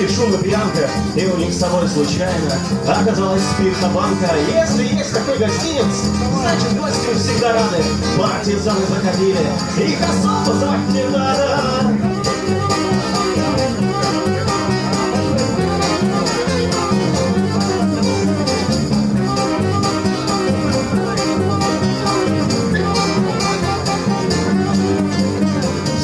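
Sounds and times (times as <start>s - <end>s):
drums beat: 0.0s - 26.0s
fiddle melody: 0.0s - 26.0s
guitar: 0.0s - 26.0s.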